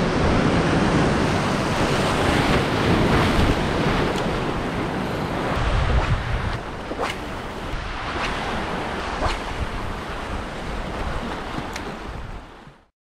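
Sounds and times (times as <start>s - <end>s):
ocean surf breaking on rocks: 0.0s - 12.8s
wind buffeting microphone: 0.0s - 12.8s.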